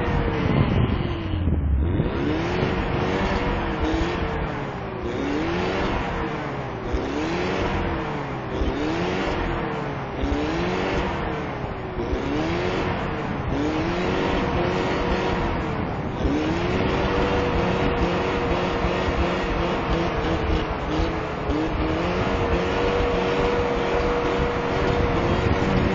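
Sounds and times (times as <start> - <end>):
tires spinning in snow: 0.0 - 25.9
truck engine revving: 0.0 - 25.9.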